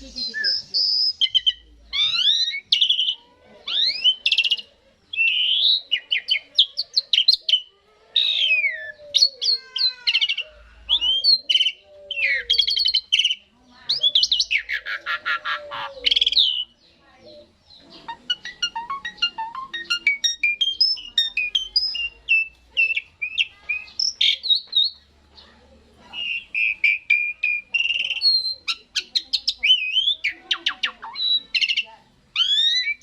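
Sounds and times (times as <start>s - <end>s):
starling singing varied song: 0.0s - 33.0s.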